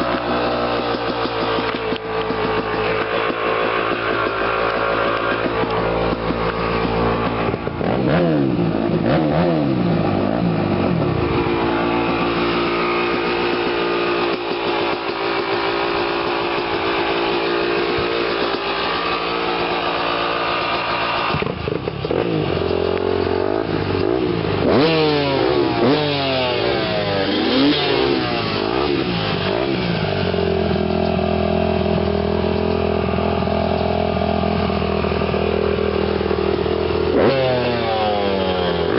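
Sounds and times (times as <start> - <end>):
motorbike engine idling and revving: 0.0 - 38.9.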